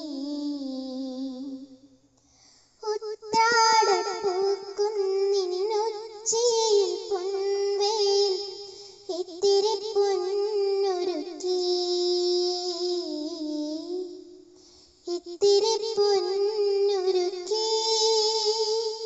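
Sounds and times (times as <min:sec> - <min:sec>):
girl singing: 0:00.0 - 0:02.0, 0:02.8 - 0:19.0.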